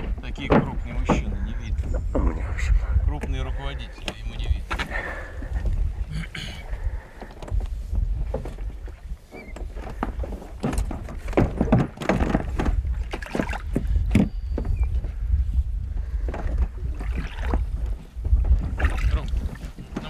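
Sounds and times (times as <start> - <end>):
water knocking against boat hull: 0.0 - 20.0
wind rumble on microphone: 0.0 - 20.0.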